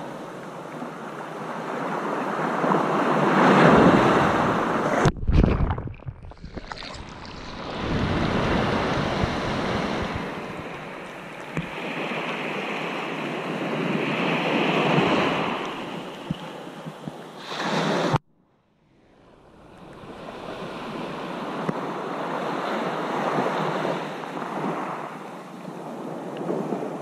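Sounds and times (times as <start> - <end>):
sea waves washing in: 0.0 - 18.2, 19.0 - 27.0.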